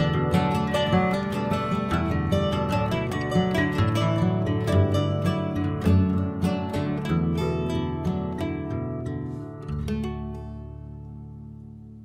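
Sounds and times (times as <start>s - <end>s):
acoustic guitar plucking and strumming: 0.0s - 12.0s.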